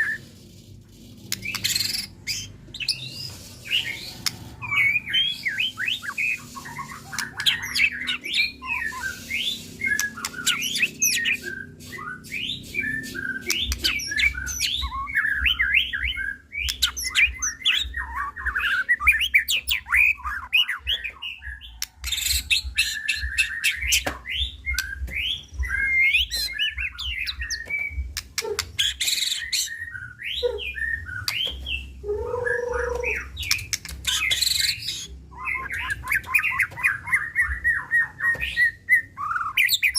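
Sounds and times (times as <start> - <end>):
bird singing: 1.4 - 39.9.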